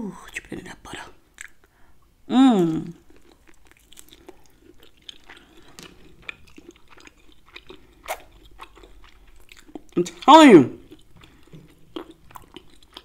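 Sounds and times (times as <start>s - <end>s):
person chewing: 1.3s - 1.7s, 2.6s - 13.0s.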